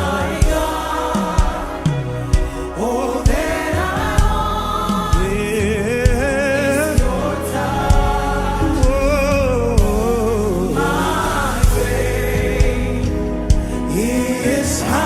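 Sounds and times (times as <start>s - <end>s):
choir singing gospel music: 0.0s - 15.0s.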